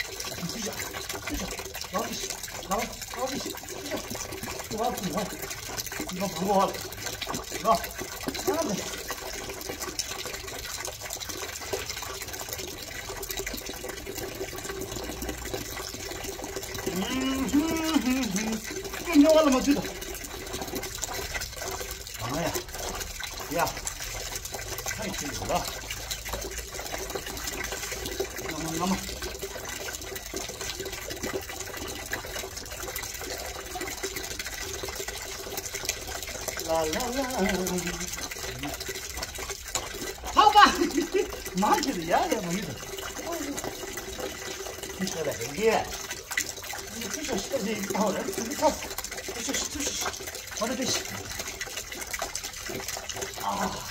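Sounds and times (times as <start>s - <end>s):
water splashing and running: 0.0s - 53.9s.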